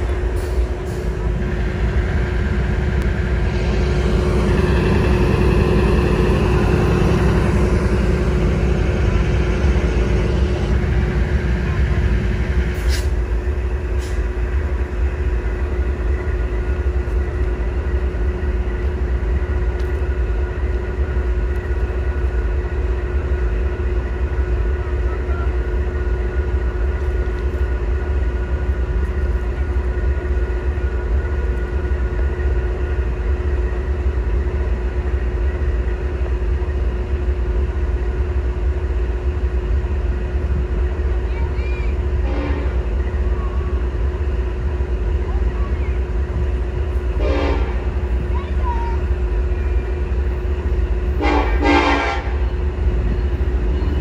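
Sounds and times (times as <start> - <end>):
diesel train rumbling: 0.0 - 54.0.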